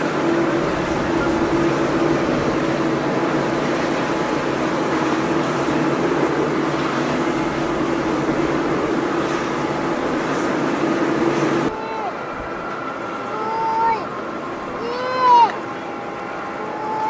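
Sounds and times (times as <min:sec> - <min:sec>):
jet engines roaring: 0:00.0 - 0:17.0
steady humming tone: 0:00.0 - 0:17.0.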